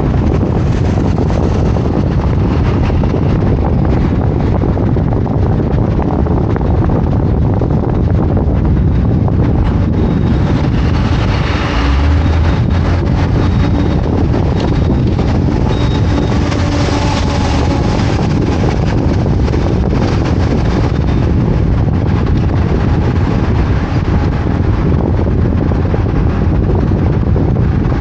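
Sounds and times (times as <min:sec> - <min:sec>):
car and road rumble: 0:00.0 - 0:28.0
wind buffeting microphone: 0:00.0 - 0:28.0.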